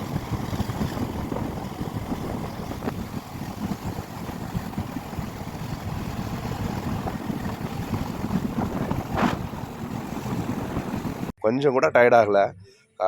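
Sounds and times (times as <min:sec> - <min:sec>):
motorcycle engine running: 0:00.0 - 0:11.3
wind buffeting microphone: 0:00.0 - 0:11.3.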